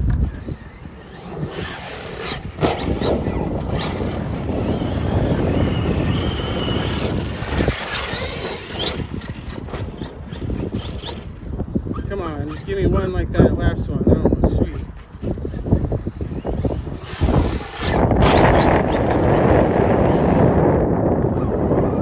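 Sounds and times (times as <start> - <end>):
electric motor whining: 0.0 - 22.0
tyres churning dirt and gravel: 0.0 - 22.0.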